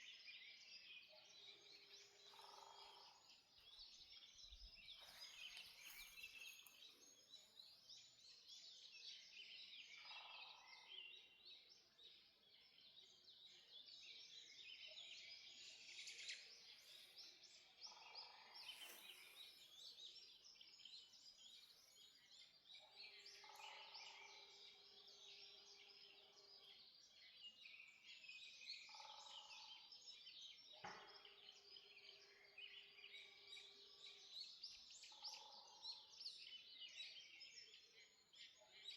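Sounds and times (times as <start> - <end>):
forest birds chirping and trilling: 0.0 - 38.9.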